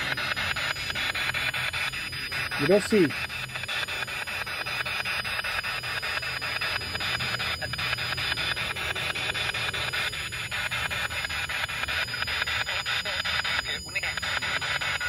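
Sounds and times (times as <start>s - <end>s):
radio static bursts: 0.0s - 15.0s.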